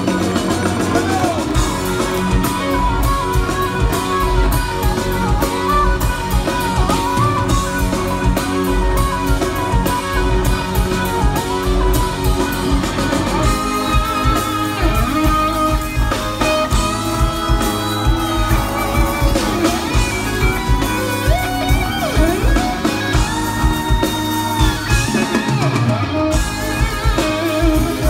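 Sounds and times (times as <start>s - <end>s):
drum kit: 0.0s - 28.0s
electric guitars: 0.0s - 28.0s
keyboards: 0.0s - 28.0s.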